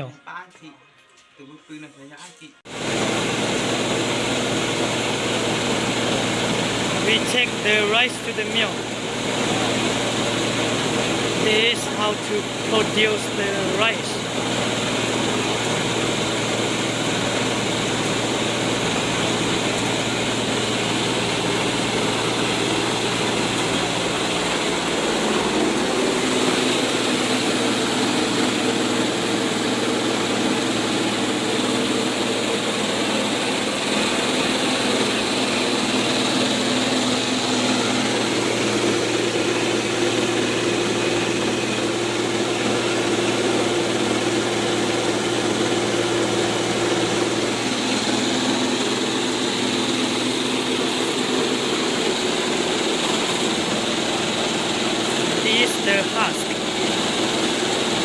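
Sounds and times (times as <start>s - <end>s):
rice mill machine droning: 2.7s - 58.0s.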